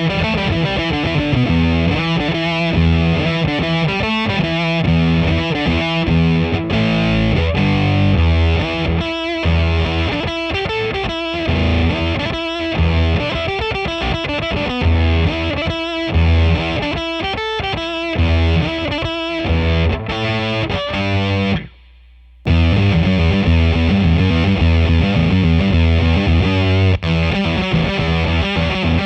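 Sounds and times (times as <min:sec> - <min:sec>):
distorted electric guitar riff: 0:00.0 - 0:29.0.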